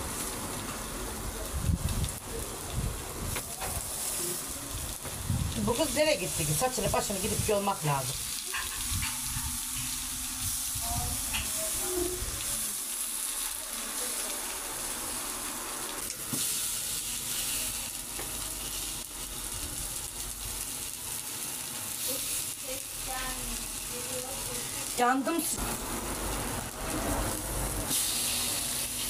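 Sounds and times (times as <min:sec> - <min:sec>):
vegetables sizzling on a griddle: 0:00.0 - 0:29.0.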